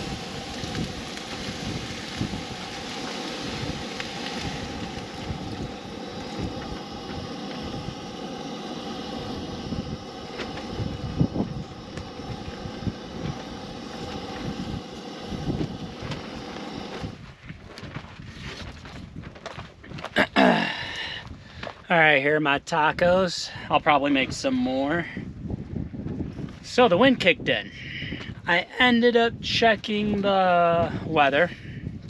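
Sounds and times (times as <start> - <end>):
gusty wind buffeting microphone: 0.0 - 20.2, 20.8 - 21.9, 22.5 - 32.0.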